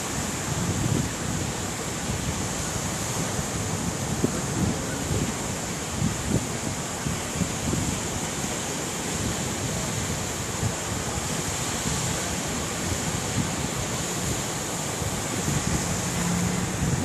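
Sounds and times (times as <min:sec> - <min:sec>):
ocean surf washing onto beach: 0:00.0 - 0:17.0
wind buffeting microphone: 0:00.0 - 0:17.0.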